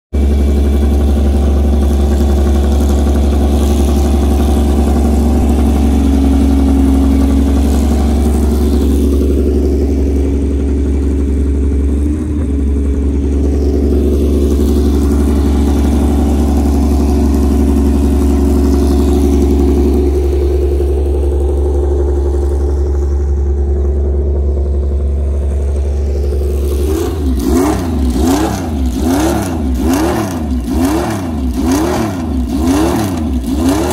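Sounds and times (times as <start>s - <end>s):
race car engine idling: 0.1s - 33.9s
engine throttle blips: 0.2s - 33.9s.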